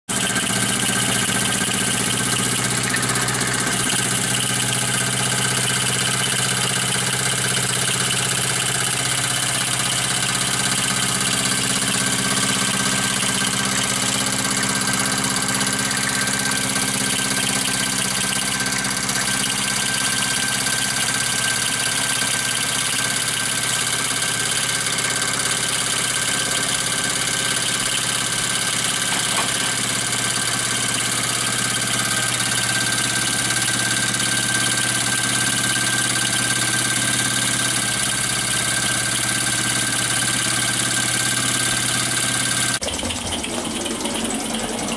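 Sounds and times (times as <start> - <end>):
model steam engine running: 0.0 - 44.9.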